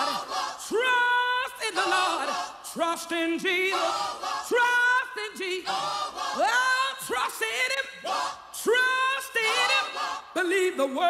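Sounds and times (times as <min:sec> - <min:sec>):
gospel singing: 0:00.0 - 0:11.0.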